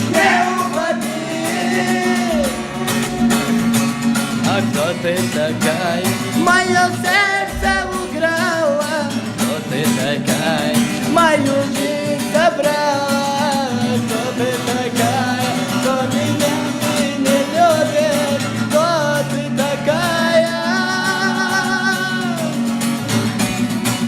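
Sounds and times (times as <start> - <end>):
person singing: 0.0 - 22.7
strummed acoustic guitar: 0.0 - 24.0.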